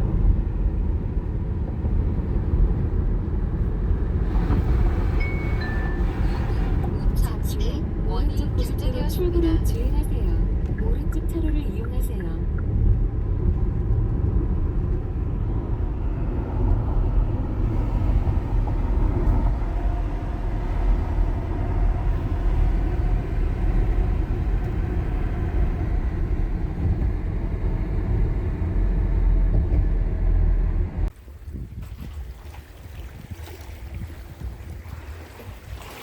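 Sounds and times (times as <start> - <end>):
car engine and road noise: 0.0 - 31.8.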